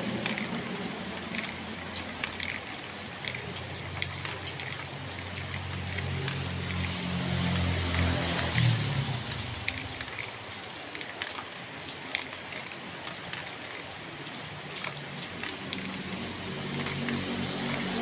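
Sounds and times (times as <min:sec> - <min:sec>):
drops ticking on plastic: 0:00.0 - 0:18.0
steady rain hiss: 0:00.0 - 0:18.0.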